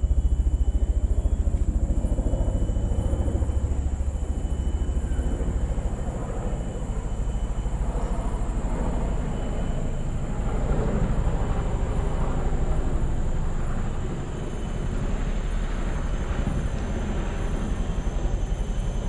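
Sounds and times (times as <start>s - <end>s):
faint high-pitched tones: 0.0s - 19.0s
low fluttering rumble: 0.0s - 19.0s.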